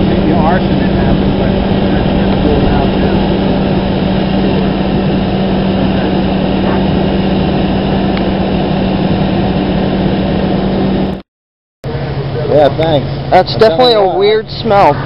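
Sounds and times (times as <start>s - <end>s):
fire engine running: 0.0s - 11.2s, 11.8s - 15.0s.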